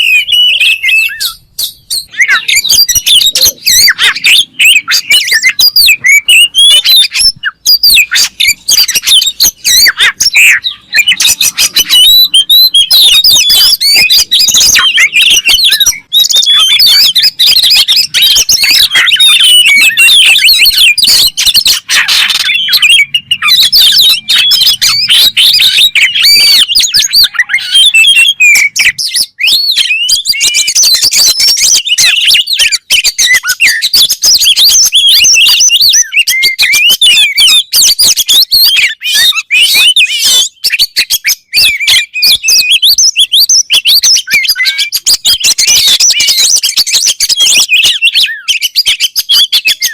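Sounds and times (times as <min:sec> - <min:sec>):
bird song of whistles and chirps: 0:00.0 - 0:49.9.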